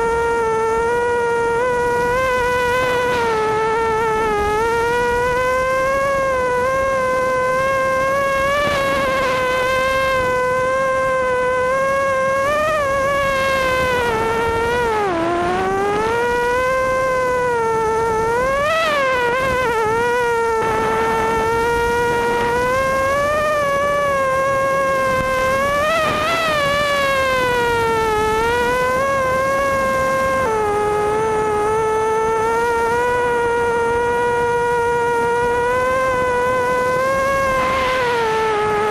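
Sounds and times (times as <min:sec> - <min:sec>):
drone motors buzzing whine: 0:00.0 - 0:38.9.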